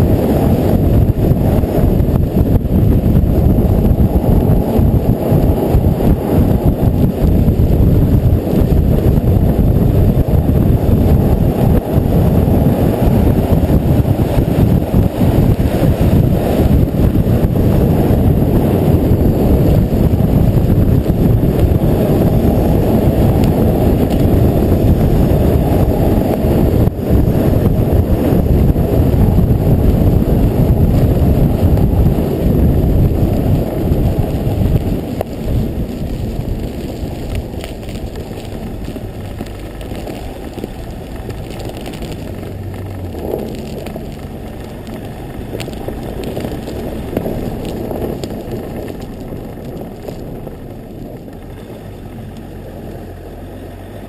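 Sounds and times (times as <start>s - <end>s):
tyres rumbling on ice: 0.0s - 54.0s
wind noise: 0.0s - 54.0s.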